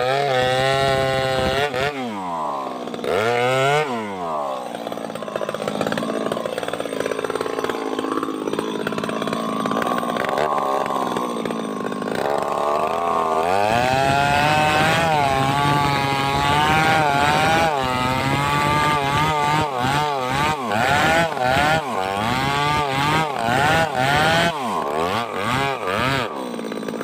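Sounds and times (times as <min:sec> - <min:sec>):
chainsaw cutting into tree: 0:00.0 - 0:27.0.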